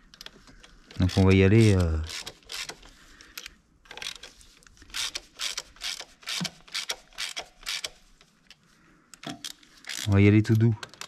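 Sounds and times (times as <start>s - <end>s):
ratchet wrench clicking: 0.9s - 8.0s, 9.2s - 11.0s.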